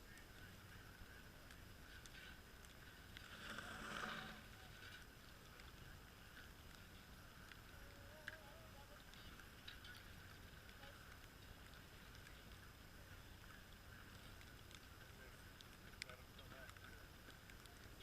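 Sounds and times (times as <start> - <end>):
soft ticks: 0.0 - 18.0.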